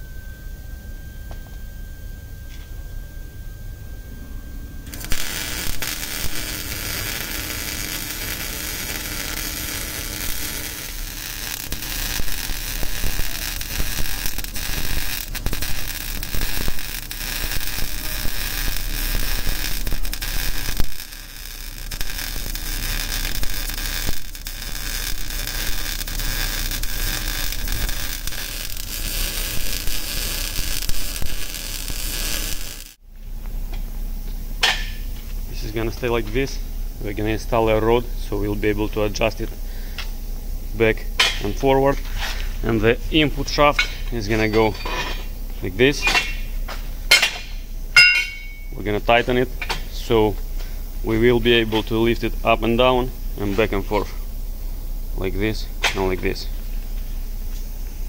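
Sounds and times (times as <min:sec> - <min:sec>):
welding arc crackling hiss: 0:04.8 - 0:33.0, 0:34.3 - 0:58.0.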